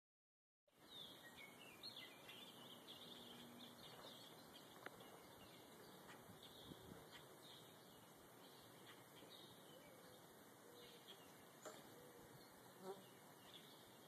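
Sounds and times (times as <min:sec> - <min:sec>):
songbirds chirping and warbling: 0:00.7 - 0:14.0
steady background hiss: 0:00.8 - 0:14.0.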